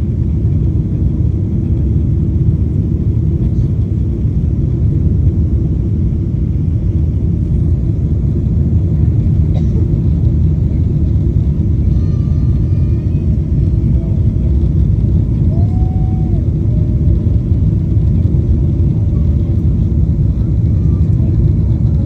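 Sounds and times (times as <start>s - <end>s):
airplane engines running: 0.0s - 22.0s.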